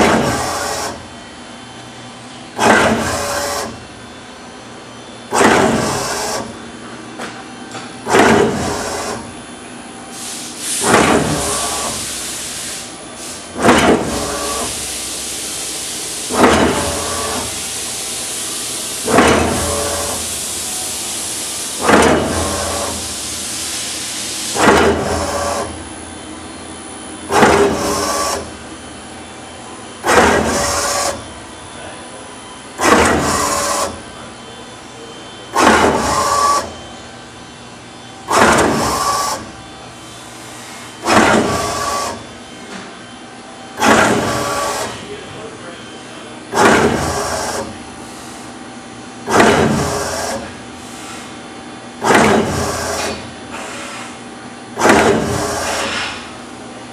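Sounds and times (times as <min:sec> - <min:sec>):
press strikes and machine noise: 0:00.0 - 0:01.5, 0:02.4 - 0:04.2, 0:05.3 - 0:32.0, 0:32.6 - 0:56.9.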